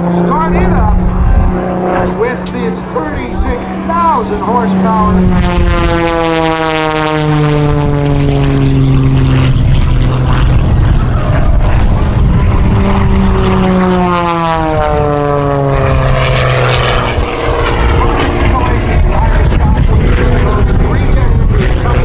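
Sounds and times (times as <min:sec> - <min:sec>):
propeller plane engine flying past: 0:00.0 - 0:22.0.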